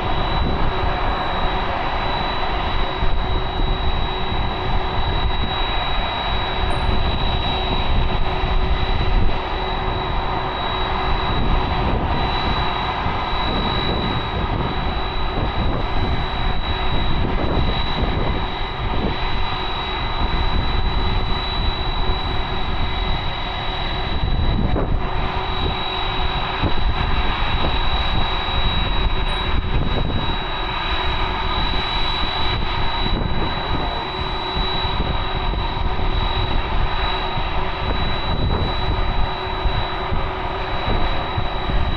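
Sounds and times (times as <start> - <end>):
high-pitched engine whine: 0.0 - 41.9
jet engines roaring: 0.0 - 41.9.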